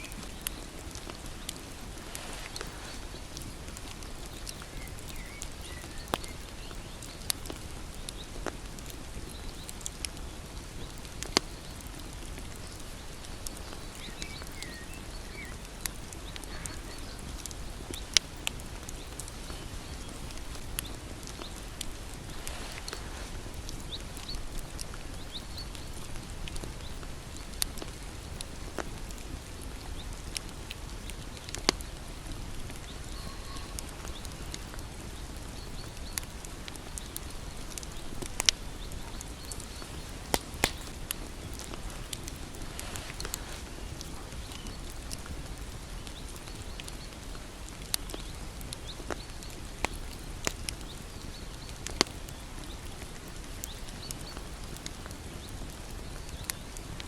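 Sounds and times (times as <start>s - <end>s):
bonfire flame rumble: 0.0s - 57.0s
burning wood crackling and popping: 0.0s - 57.0s.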